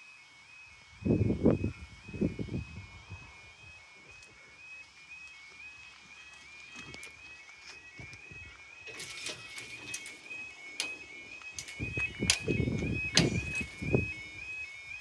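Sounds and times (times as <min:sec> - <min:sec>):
level crossing alarm: 0:00.0 - 0:15.0.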